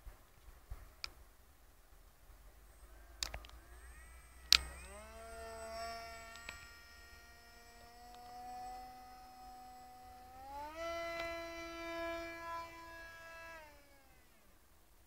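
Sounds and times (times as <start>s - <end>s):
electric motor propeller whining: 2.6s - 15.0s.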